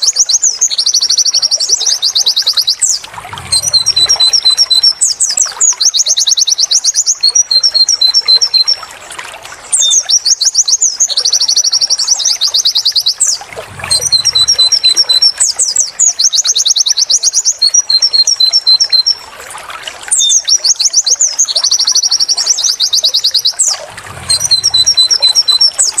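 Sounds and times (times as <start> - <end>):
bird song with trills: 0.0 - 8.9, 9.7 - 19.3, 20.1 - 26.0.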